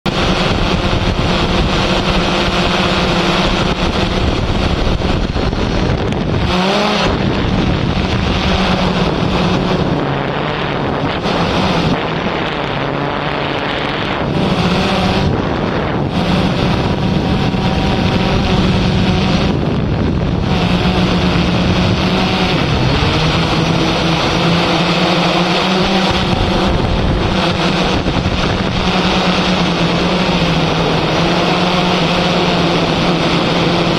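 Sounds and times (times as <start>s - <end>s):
drone propellers whirring: 0.0s - 33.9s
rush of air noise: 0.1s - 33.9s.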